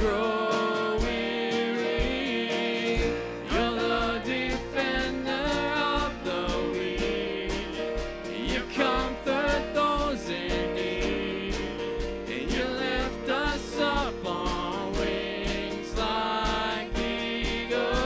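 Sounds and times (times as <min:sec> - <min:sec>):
acoustic guitar: 0:00.0 - 0:18.0
drums: 0:00.0 - 0:18.0
keyboard: 0:00.0 - 0:18.0
man and woman singing: 0:00.0 - 0:18.0.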